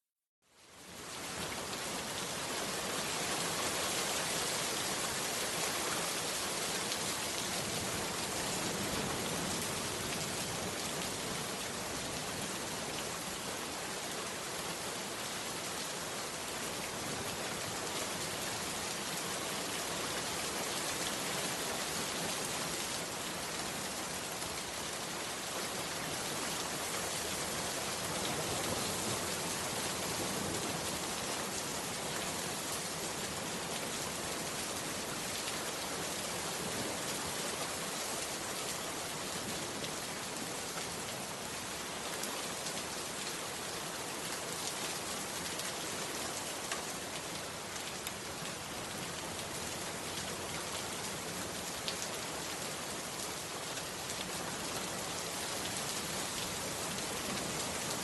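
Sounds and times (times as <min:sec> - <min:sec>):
heavy rain falling: 0:00.8 - 0:58.0.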